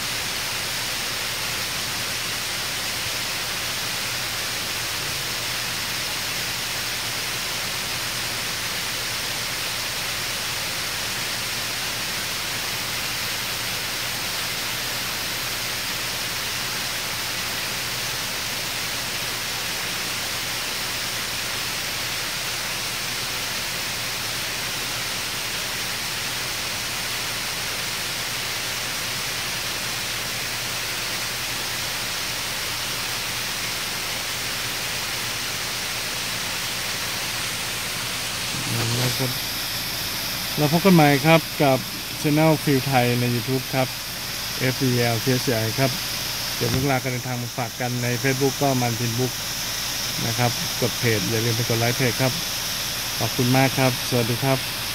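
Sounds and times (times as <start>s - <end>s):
water rushing down rock face: 0.0s - 54.9s.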